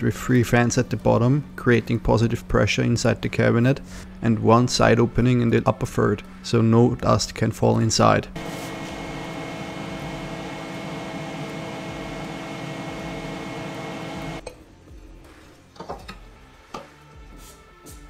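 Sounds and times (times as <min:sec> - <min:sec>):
cooling fans humming: 0:00.0 - 0:14.5.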